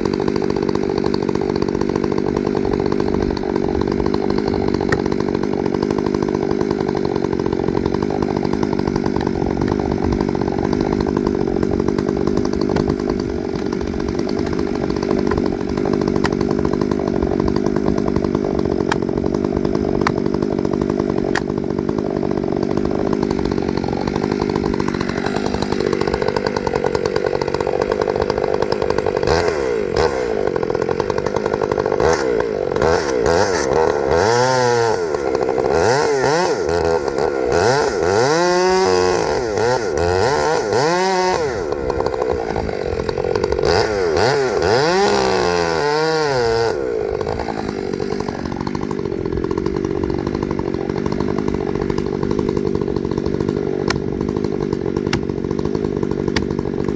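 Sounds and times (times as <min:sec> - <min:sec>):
gas chainsaw running: 0:00.0 - 0:56.9.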